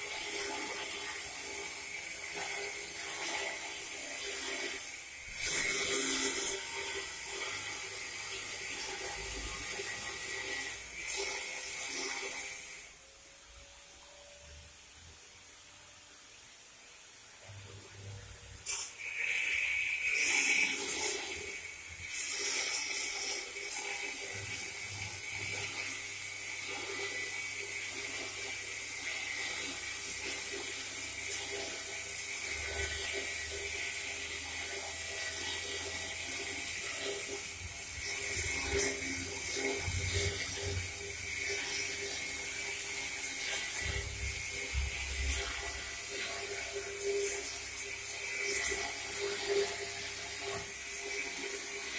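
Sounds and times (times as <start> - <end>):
machine drive humming: 0.0 - 51.9.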